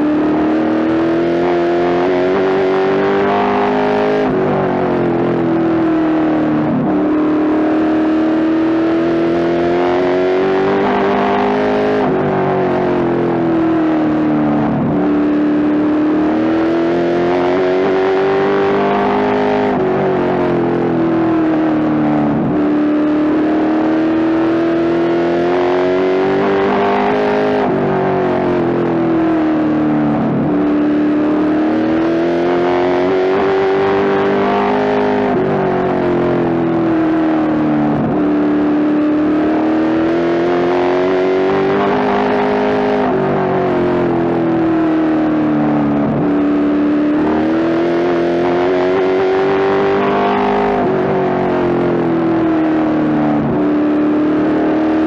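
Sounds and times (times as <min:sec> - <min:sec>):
race car engine revving: 0:00.0 - 0:55.0
road and tyre noise: 0:00.0 - 0:55.0.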